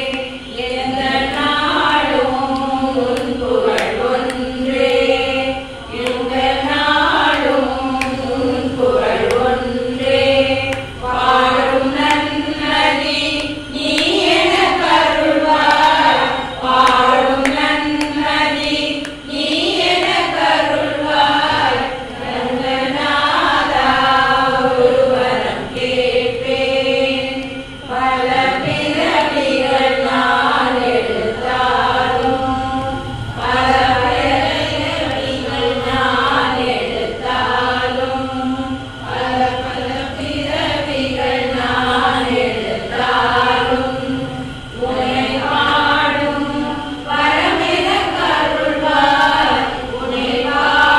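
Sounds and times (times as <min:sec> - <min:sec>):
women singing in unison: 0:00.0 - 0:50.9.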